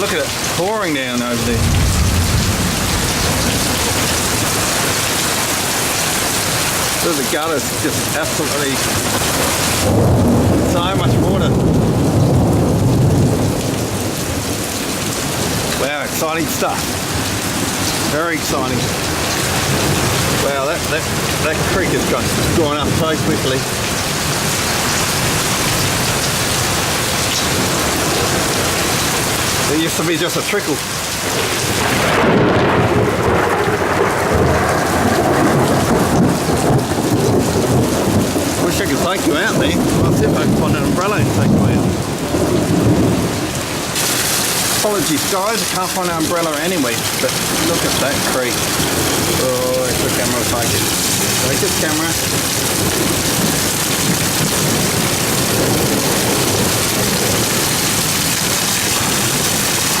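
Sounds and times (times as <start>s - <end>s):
heavy rain pouring: 0.0s - 60.0s
thunder rumbling: 0.0s - 60.0s.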